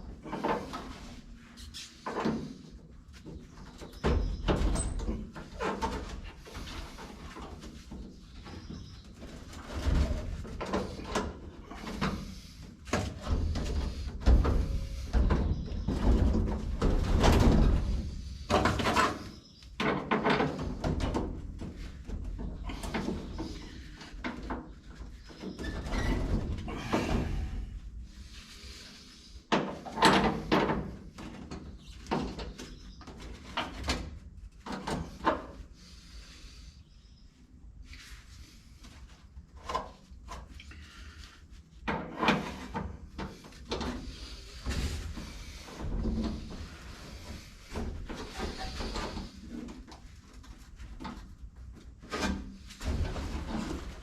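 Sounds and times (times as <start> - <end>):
metal clunks and scrapes: 0.0 - 35.6, 41.8 - 54.0.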